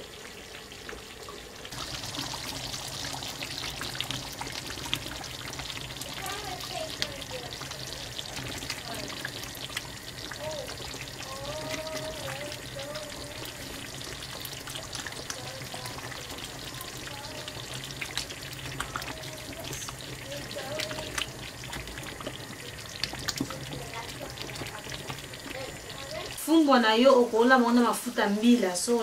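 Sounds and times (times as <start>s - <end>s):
stew bubbling and spitting: 1.7s - 26.4s.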